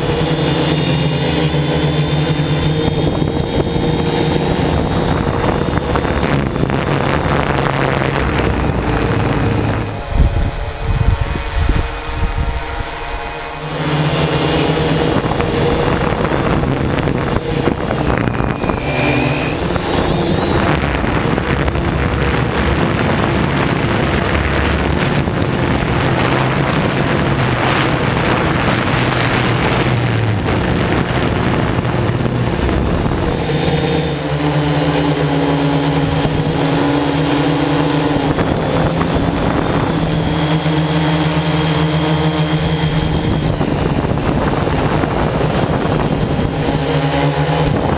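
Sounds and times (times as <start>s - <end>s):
drone motors whirring: 0.0s - 47.9s.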